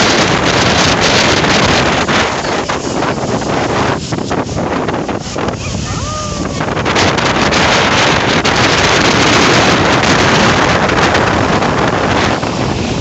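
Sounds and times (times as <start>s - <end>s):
heavy surf: 0.0s - 13.0s
wind buffeting microphone: 0.0s - 13.0s.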